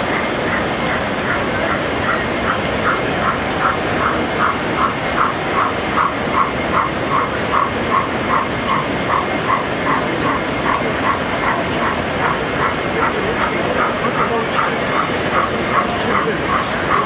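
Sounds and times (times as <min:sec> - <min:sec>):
busy hall background noise: 0:00.0 - 0:17.0.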